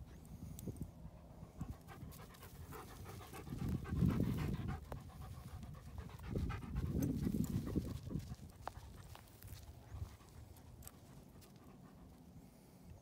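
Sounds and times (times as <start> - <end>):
large dog panting: 1.1 - 12.9.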